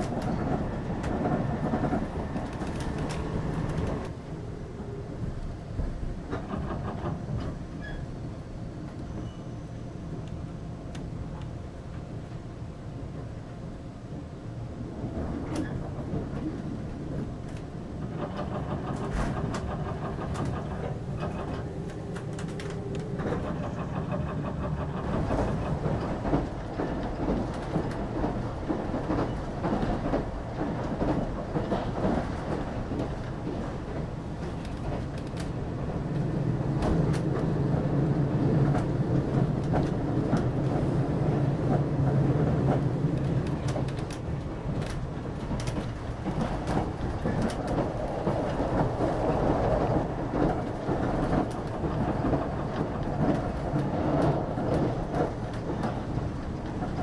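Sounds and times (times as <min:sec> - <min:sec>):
wheels clicking over rail joints: 0:00.0 - 0:04.2, 0:15.2 - 0:57.0
train rumble: 0:00.0 - 0:57.0.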